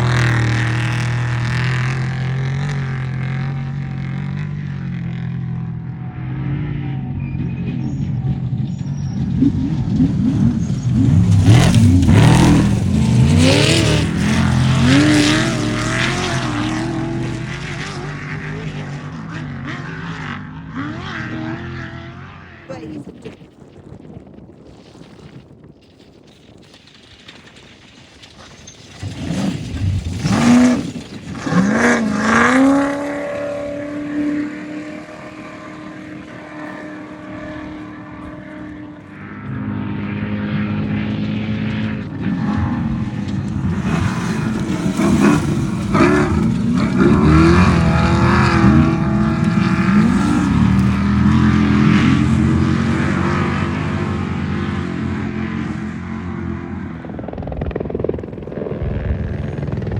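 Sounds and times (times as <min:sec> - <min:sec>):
race vehicle engines revving: 0:00.0 - 0:23.4, 0:28.9 - 0:59.9.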